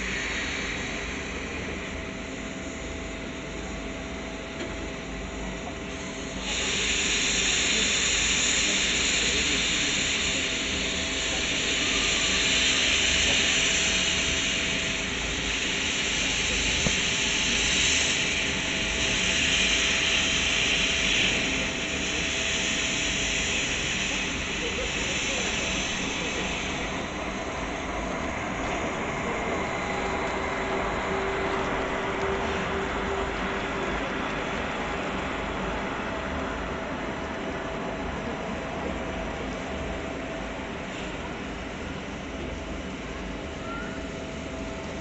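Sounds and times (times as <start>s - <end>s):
steam locomotive hissing steam: 0.0s - 45.0s.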